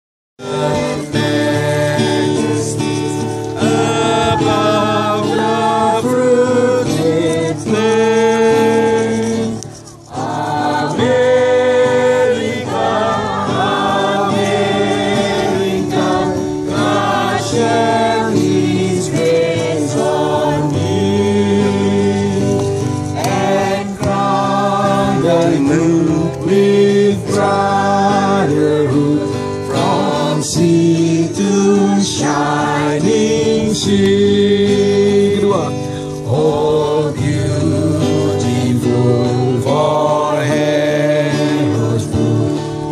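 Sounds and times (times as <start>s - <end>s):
acoustic guitar: 0.4s - 42.9s
group of people singing: 0.4s - 42.9s.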